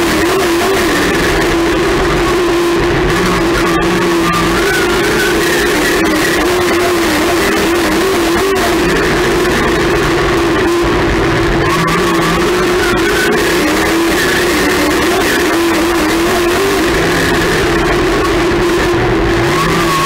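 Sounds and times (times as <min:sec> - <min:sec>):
race car engine at high revs: 0:00.0 - 0:20.0
rock music: 0:00.0 - 0:20.0.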